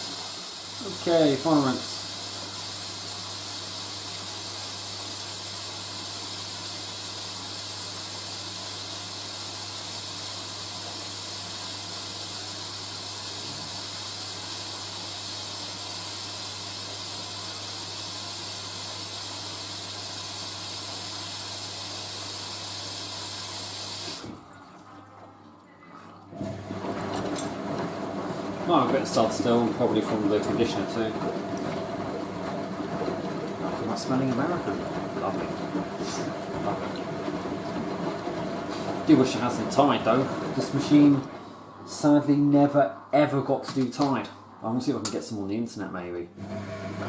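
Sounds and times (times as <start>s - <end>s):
washing machine filling with water: 0.0s - 43.4s, 46.4s - 47.0s.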